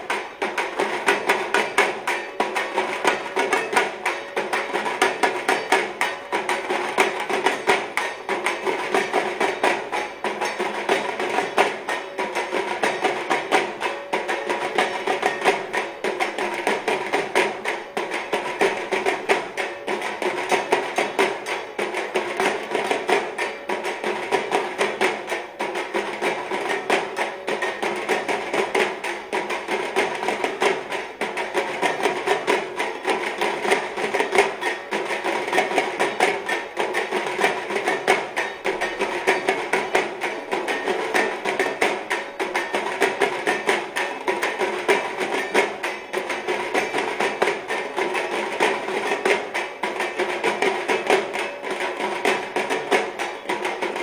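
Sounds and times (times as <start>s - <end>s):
fast percussion music: 0.0s - 54.0s.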